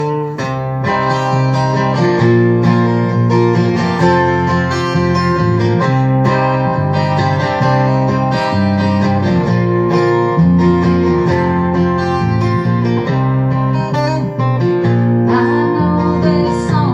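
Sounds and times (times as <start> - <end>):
acoustic guitar strumming chords: 0.0 - 16.9.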